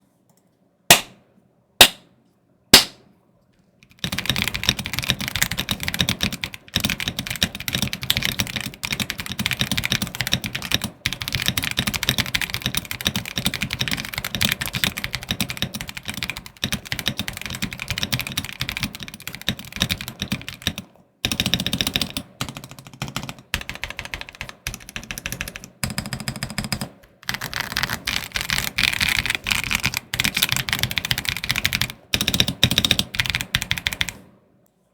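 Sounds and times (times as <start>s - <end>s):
fast mechanical keyboard typing: 3.8s - 34.2s.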